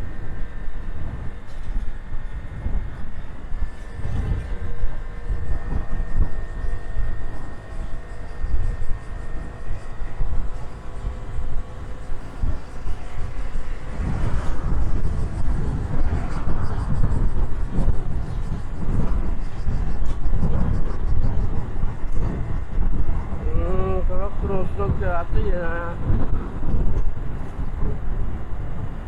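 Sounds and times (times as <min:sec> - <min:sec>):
faint high whine: 0:00.0 - 0:29.0
wind buffeting microphone: 0:00.0 - 0:29.0.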